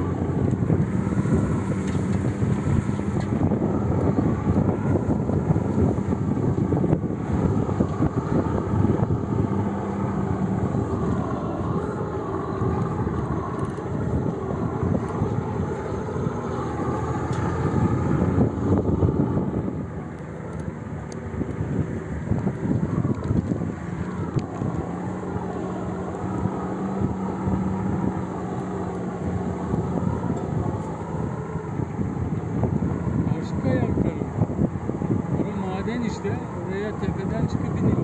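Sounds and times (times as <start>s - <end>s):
vehicle driving on dirt track: 0.0s - 38.0s
wind on microphone: 0.0s - 38.0s.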